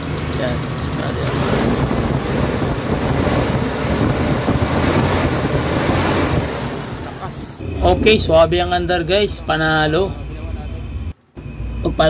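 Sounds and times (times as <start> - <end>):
car engine running smoothly: 0.0 - 12.0.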